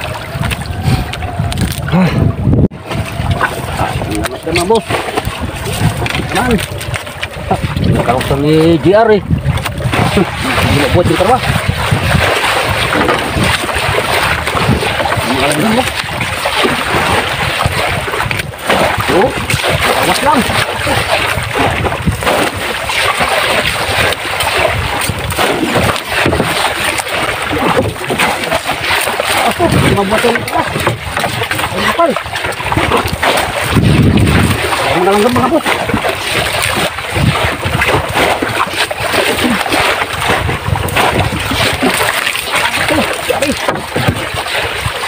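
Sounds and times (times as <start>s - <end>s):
water splashing against boat hull: 0.0s - 45.0s
wind on microphone: 0.0s - 45.0s.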